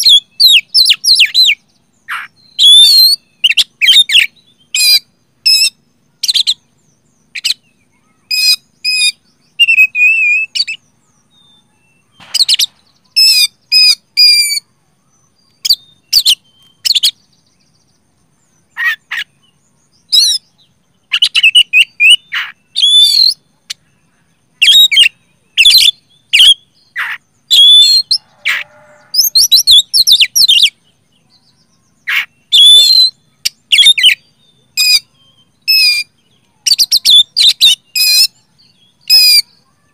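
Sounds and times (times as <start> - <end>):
bird singing whistles and chatter: 0.0 - 17.4, 18.7 - 39.9.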